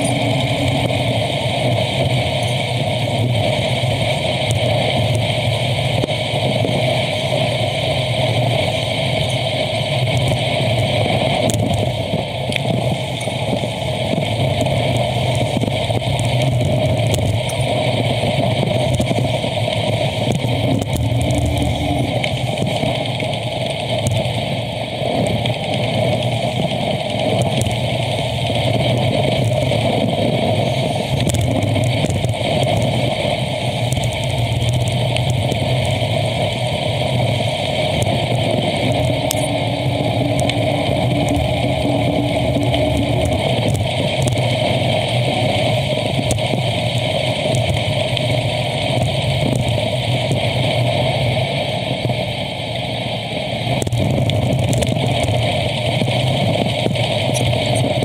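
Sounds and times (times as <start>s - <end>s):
passing motor vehicles humming: 0.0s - 49.0s
road noise rushing: 0.0s - 58.0s.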